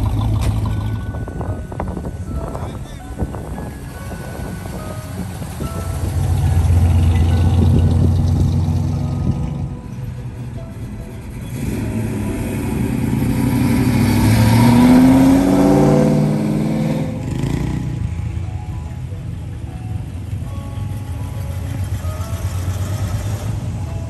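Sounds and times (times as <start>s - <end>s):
car engine accelerating: 0.0s - 18.5s, 19.9s - 24.0s
hot rod engine driving past: 0.0s - 18.5s, 20.0s - 24.0s.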